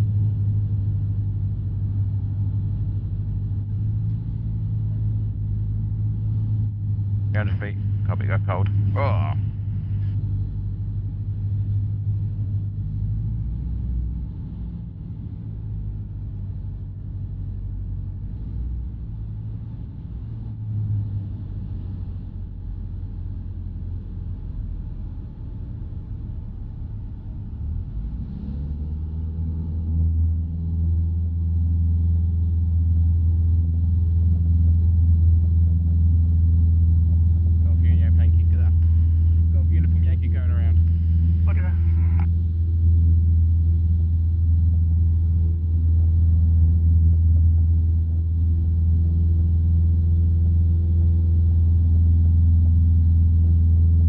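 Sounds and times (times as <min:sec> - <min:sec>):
light aircraft engine and propeller: 0:00.0 - 0:54.0.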